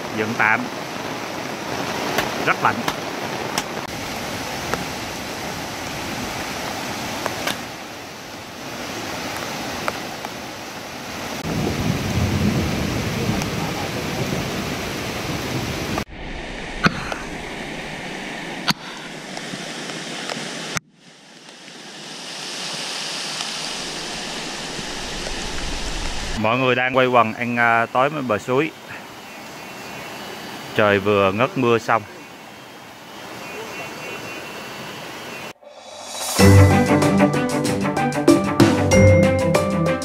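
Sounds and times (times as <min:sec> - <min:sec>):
stream rushing over rocks: 0:00.0 - 0:36.4.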